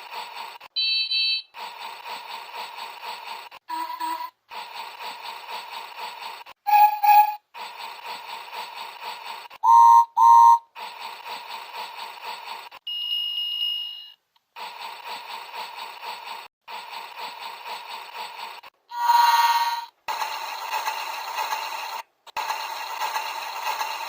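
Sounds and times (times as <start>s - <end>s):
toy train motor whirring: 0.0s - 12.9s, 14.5s - 24.0s.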